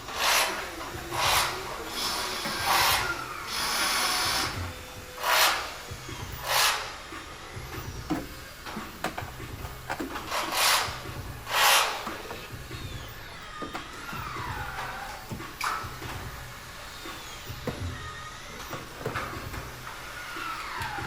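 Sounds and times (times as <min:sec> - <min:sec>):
hand tool rasping: 0:00.0 - 0:21.0.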